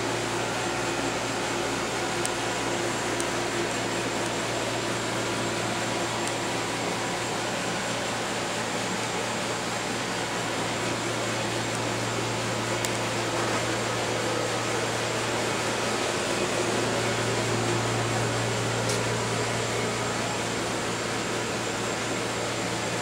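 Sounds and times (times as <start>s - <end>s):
steady hum and hiss: 0.0s - 23.0s.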